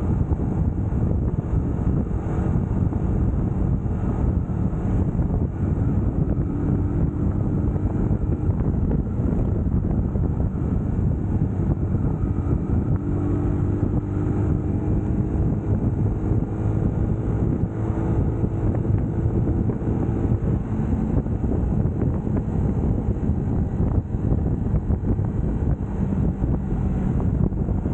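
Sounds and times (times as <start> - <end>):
motorcycle engine running: 0.0 - 27.9
wind rushing over microphone: 0.0 - 27.9.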